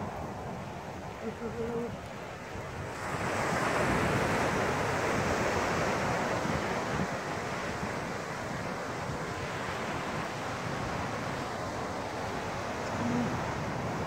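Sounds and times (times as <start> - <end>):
ocean surf rushing: 0.0 - 14.0
wind on microphone: 0.0 - 14.0.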